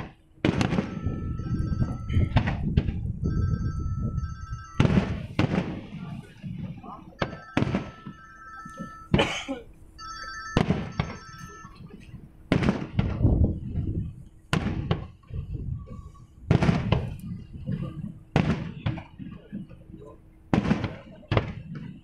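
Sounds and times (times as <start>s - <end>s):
fireworks bangs with rumbling echo: 0.0s - 22.0s.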